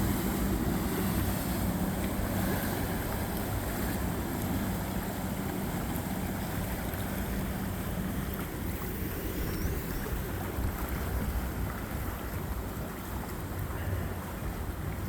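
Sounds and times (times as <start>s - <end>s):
churning water: 0.0s - 15.0s
motorboat engine drone: 0.0s - 15.0s.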